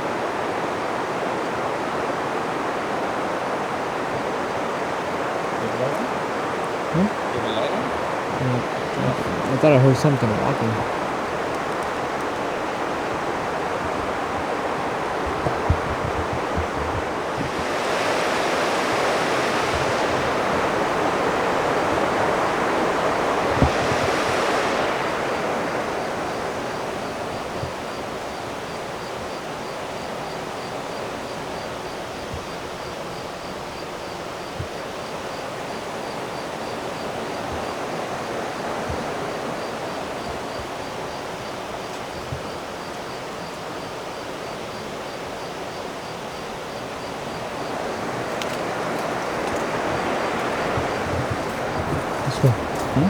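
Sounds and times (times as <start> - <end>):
flowing river water: 0.0 - 53.0.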